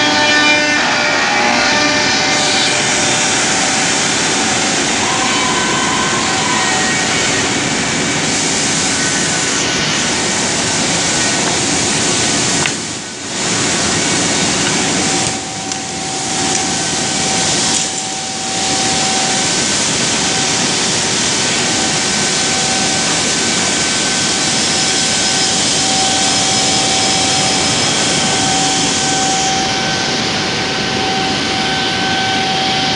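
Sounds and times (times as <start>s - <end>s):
router machine running with high whine: 0.0s - 32.9s.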